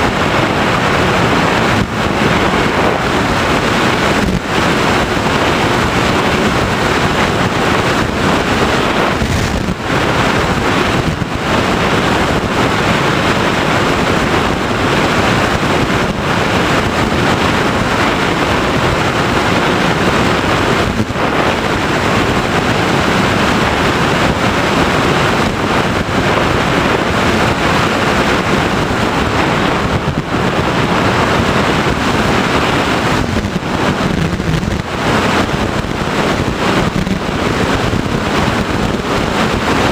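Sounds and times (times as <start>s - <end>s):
airflow buffeting microphone: 0.0s - 39.9s.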